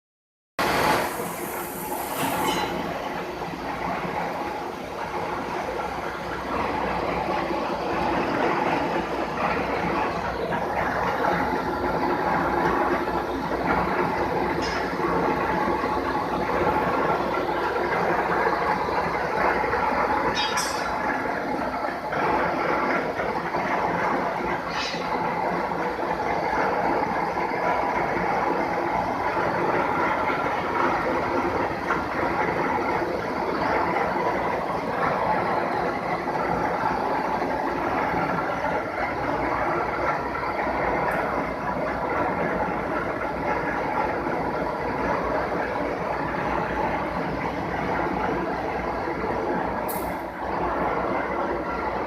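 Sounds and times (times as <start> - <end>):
lathe drone and rattle: 0.6 - 52.0.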